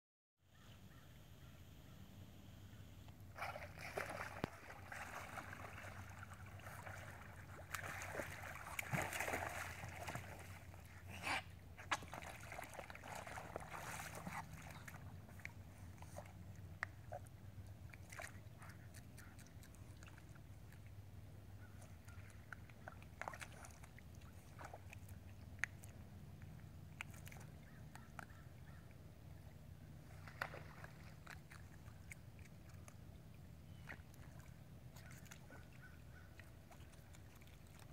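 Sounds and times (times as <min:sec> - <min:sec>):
otters splashing in water: 0:03.3 - 0:10.9, 0:11.8 - 0:21.0, 0:21.6 - 0:28.8, 0:30.0 - 0:37.9.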